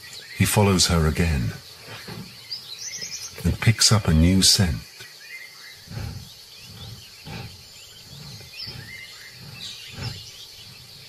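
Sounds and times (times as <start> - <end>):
small birds chirping: 0.0 - 11.0
tiger sniffing: 0.0 - 11.0.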